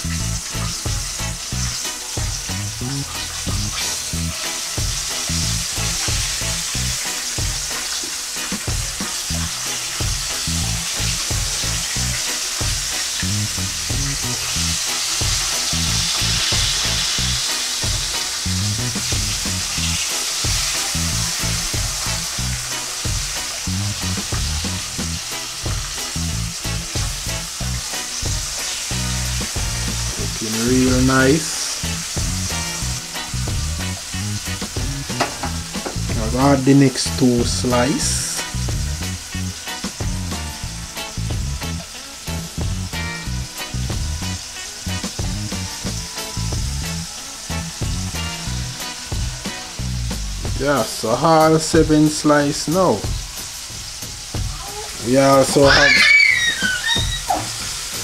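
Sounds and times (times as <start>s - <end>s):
background music with beat: 0.0s - 58.0s
fish deep-frying in oil: 0.0s - 58.0s.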